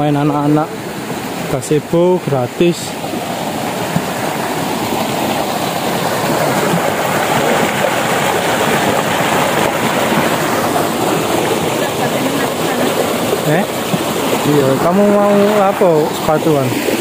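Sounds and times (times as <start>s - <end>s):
water rushing over a step: 0.0s - 17.0s.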